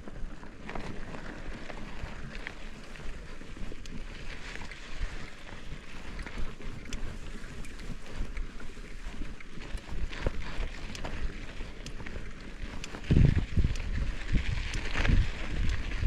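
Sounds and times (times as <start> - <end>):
bike tyres rolling on dirt: 0.0 - 16.0
gravel clicks and crunches: 0.0 - 16.0
wind buffeting microphone: 2.0 - 16.0.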